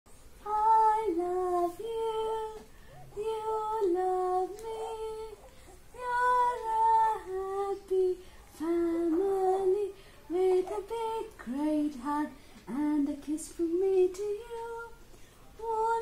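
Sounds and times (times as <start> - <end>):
woman singing slow melody: 0.4 - 16.0.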